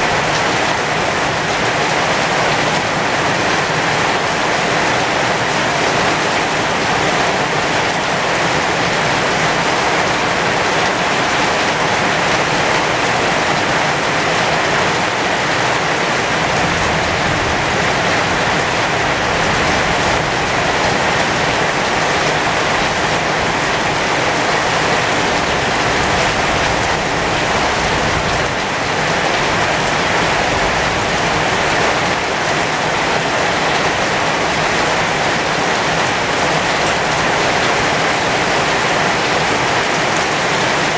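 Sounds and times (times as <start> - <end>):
heavy rain on leaves: 0.0 - 40.9.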